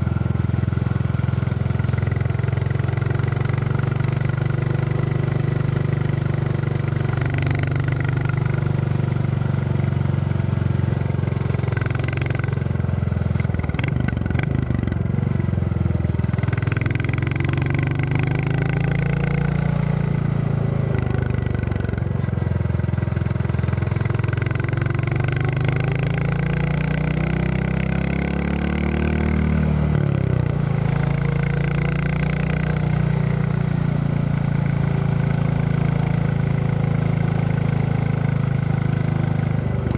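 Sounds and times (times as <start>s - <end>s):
engine clatter: 0.0s - 39.9s.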